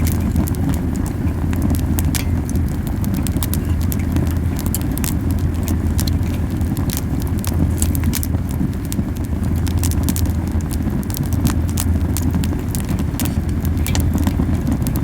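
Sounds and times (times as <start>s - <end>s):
campfire crackling and popping: 0.0s - 15.0s
low rumble of flames: 0.0s - 15.0s.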